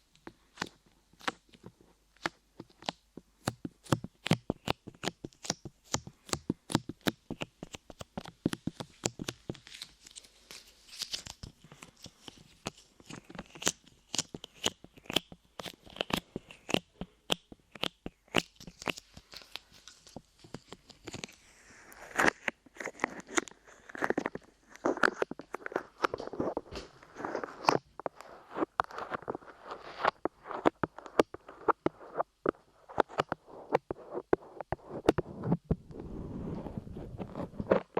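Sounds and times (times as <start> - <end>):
sticky crackling clay clicks: 0.1 - 35.4.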